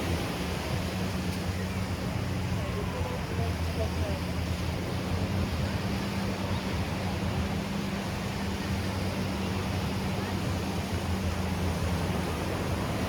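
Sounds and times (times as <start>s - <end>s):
surf: 0.0s - 13.0s
wind: 0.0s - 13.0s.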